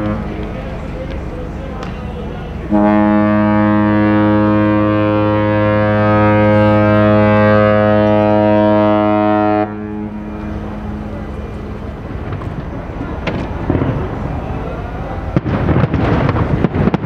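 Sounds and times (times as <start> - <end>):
ship's horn blast: 0.0 - 16.3.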